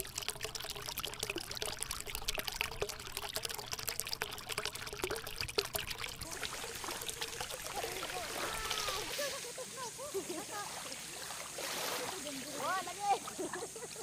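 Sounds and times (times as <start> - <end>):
seawater lapping at shore: 0.0 - 14.0.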